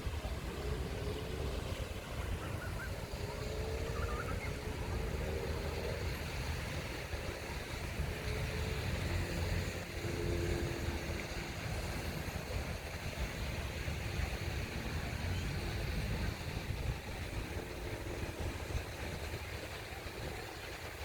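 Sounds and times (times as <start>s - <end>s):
distant engine droning: 0.0s - 21.0s
wind and surf rumble: 0.0s - 21.0s.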